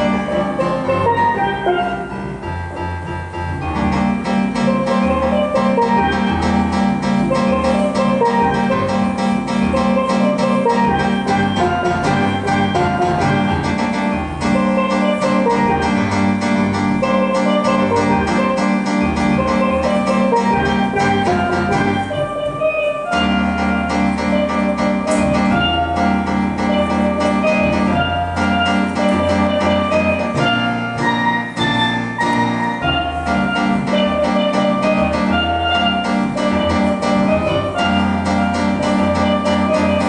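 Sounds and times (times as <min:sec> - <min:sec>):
steady bass line: 0:00.0 - 0:40.0
steelpan melody: 0:00.0 - 0:40.0.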